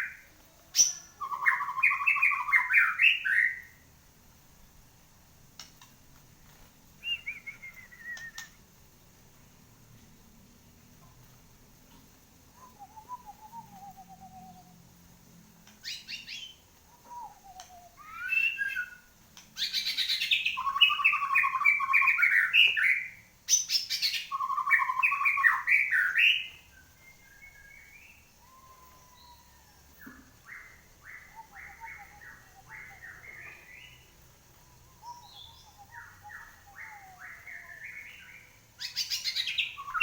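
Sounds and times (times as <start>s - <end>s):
songbird singing whistles and trills: 0.0s - 3.8s, 7.0s - 8.7s, 12.4s - 14.9s, 15.6s - 40.0s.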